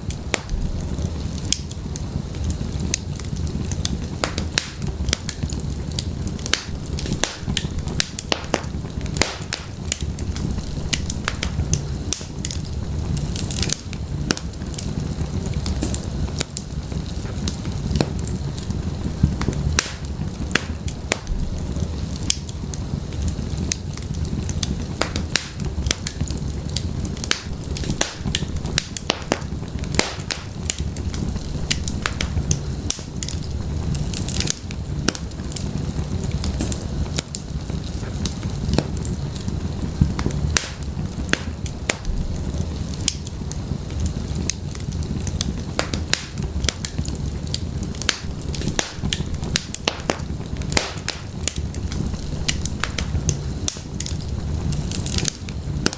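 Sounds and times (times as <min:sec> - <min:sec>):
firewood crackling and popping: 0:00.0 - 0:55.9
flames rushing: 0:00.0 - 0:55.9.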